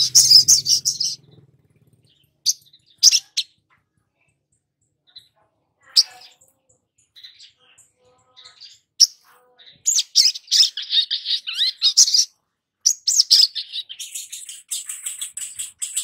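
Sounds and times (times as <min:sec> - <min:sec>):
sunbird chattering song: 0:00.0 - 0:03.6, 0:04.2 - 0:16.0.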